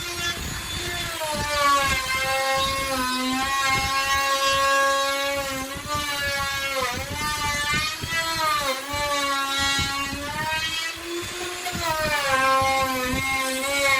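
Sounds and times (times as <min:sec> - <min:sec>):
electric router whining: 0:00.0 - 0:13.9.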